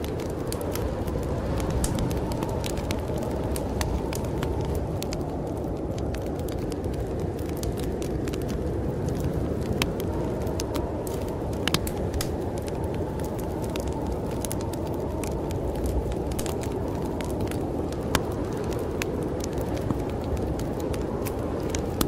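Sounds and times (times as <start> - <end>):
snowstorm wind rushing: 0.0 - 22.0
wood fire crackling: 0.0 - 22.0.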